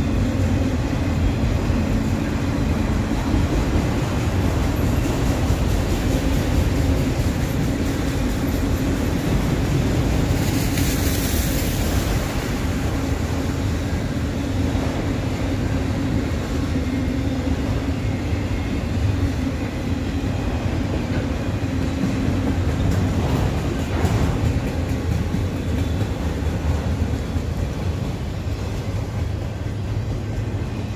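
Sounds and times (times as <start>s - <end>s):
train wheels rumbling on rail: 0.0s - 30.9s.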